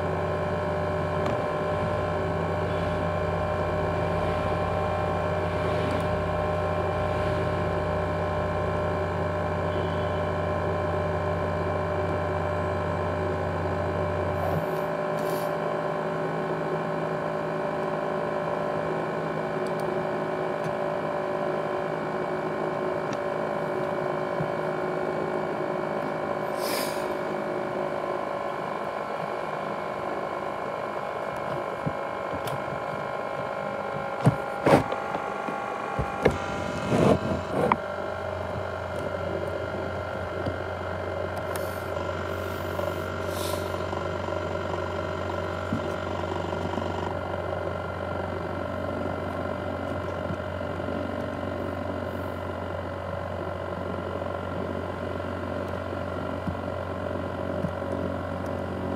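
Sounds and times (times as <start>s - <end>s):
low hum: 0.0s - 58.7s
laptop fan whine: 0.0s - 58.9s.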